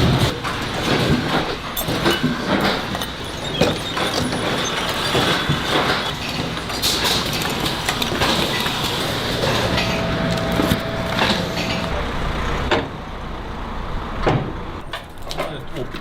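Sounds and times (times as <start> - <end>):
factory machinery clattering: 0.0 - 16.0.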